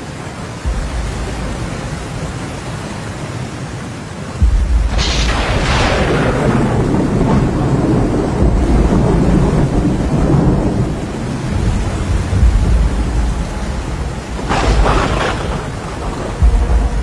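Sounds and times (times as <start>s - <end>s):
steady rain: 0.0s - 17.0s
thunder rumbling: 0.6s - 2.4s, 4.4s - 17.0s.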